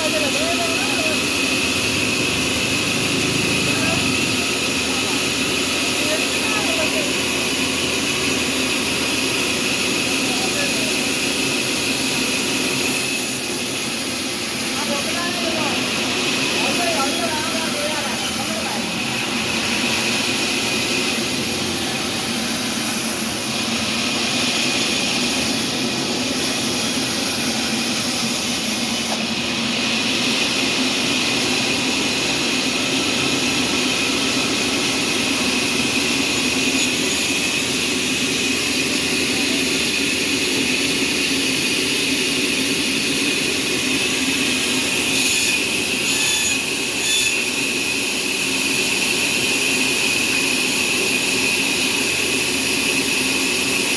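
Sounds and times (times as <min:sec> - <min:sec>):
sawmill machinery whining: 0:00.0 - 0:53.9.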